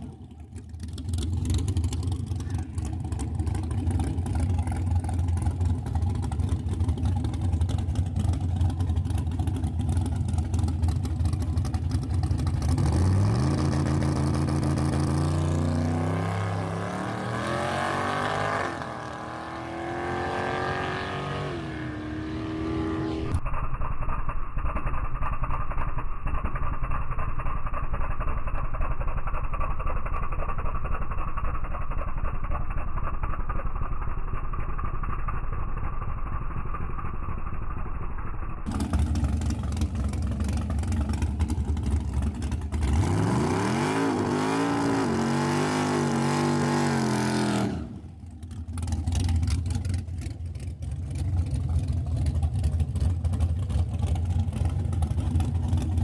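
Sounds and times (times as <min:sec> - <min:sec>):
drag racing engine accelerating: 0:00.0 - 0:56.0.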